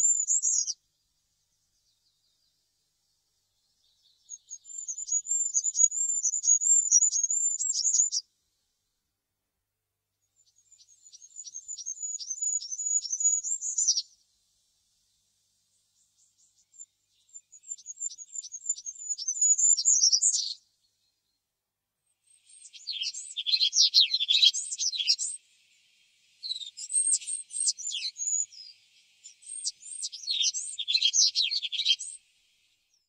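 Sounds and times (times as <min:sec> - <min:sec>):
bird singing high thin song: 0:00.0 - 0:08.3, 0:10.2 - 0:21.4, 0:22.2 - 0:33.0.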